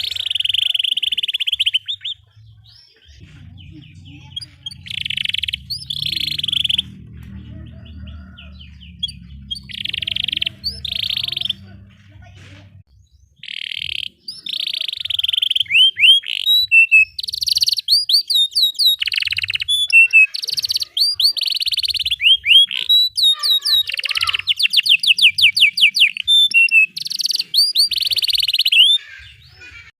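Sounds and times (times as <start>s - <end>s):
canary singing: 0.0s - 12.0s, 12.9s - 29.9s.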